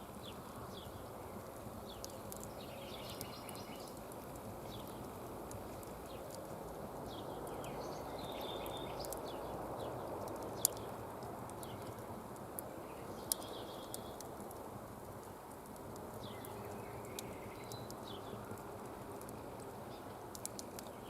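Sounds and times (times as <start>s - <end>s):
burning wood popping: 0.0s - 21.0s
campfire crackling: 0.0s - 21.0s.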